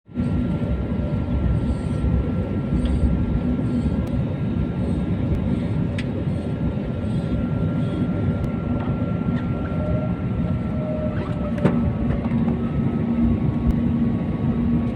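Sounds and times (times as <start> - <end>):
jet engines rumbling in cabin: 0.1 - 14.9.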